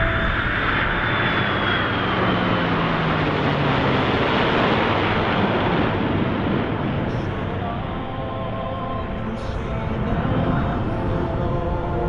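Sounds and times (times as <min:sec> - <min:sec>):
jet engine flying past: 0:00.0 - 0:12.0
piston aircraft engine: 0:00.0 - 0:12.0.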